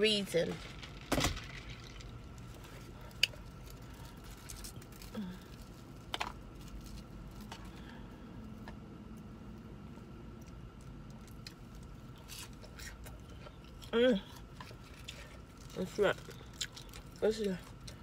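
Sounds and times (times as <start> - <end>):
faint steady hum: 0.0 - 18.0
crunching rustle of food: 0.1 - 18.0.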